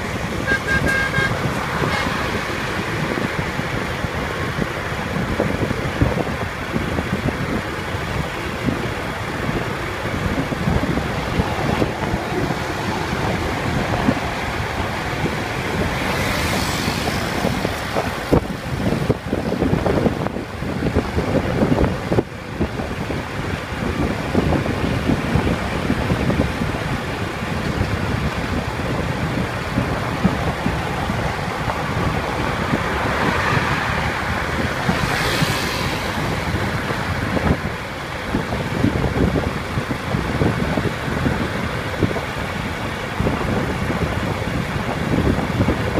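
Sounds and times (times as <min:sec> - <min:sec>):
highway traffic noise: 0:00.0 - 0:45.9
wind buffeting microphone: 0:00.0 - 0:45.9.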